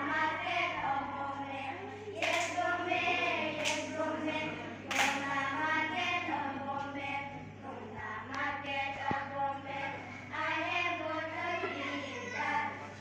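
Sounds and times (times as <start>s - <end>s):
chorus singing: 0.0s - 12.0s.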